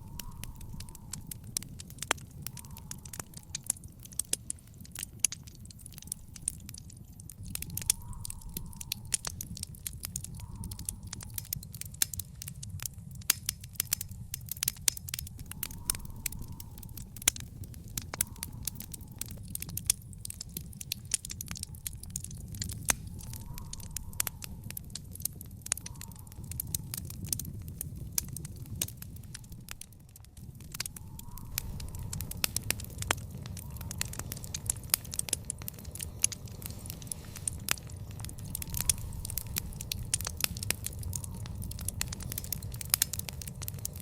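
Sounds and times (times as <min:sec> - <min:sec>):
low rumble: 0:00.0 - 0:13.2, 0:13.8 - 0:44.0
wood fire crackling and popping: 0:00.0 - 0:44.0.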